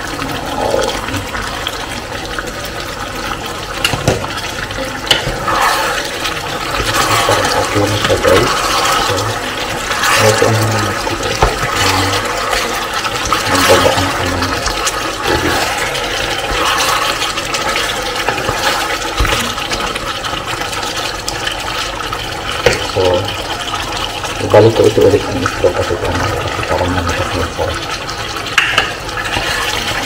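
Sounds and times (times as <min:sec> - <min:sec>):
meat sizzling and bubbling in sauce: 0:00.0 - 0:30.0.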